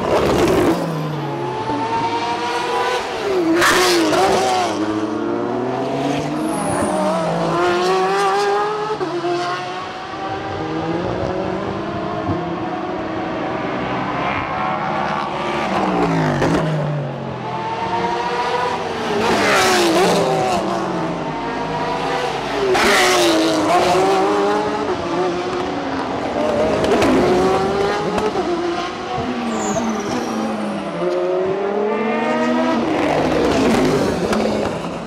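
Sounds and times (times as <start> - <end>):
race cars passing at speed: 0.0 - 35.0.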